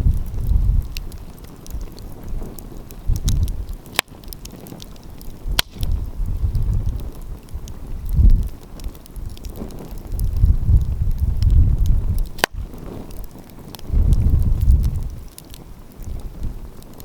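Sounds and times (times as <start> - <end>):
sharp fire pops: 0.0 - 17.0
wind buffeting microphone: 0.0 - 17.0
wood fire crackling: 0.0 - 17.0.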